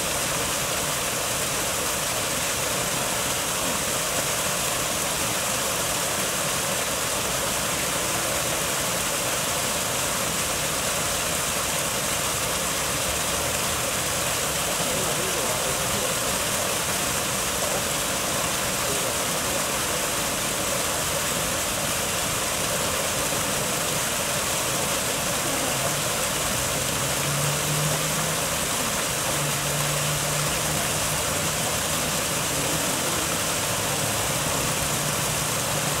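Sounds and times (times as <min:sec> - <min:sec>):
water pouring over small waterfall: 0:00.0 - 0:36.0.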